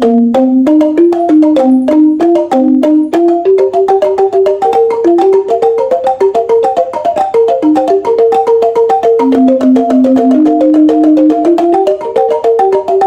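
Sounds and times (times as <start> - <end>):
tuned bamboo instrument melody: 0.0 - 13.0.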